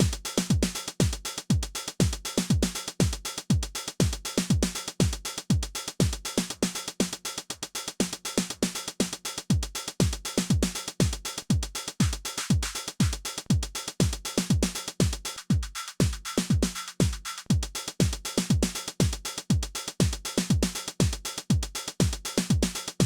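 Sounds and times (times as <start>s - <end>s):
drum machine kick drum: 0.0s - 23.0s
hi-hat ticks: 0.0s - 23.0s.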